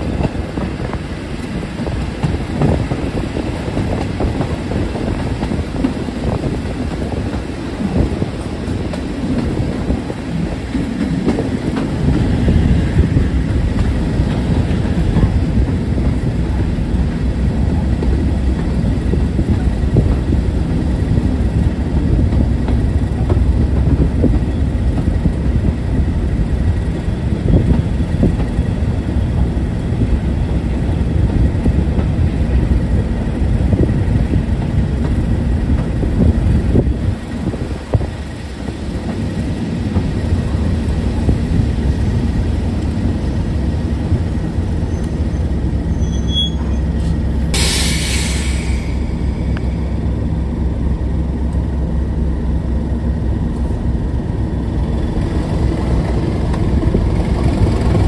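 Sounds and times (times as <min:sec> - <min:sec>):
wheel and rail noise: 0:00.0 - 0:58.0.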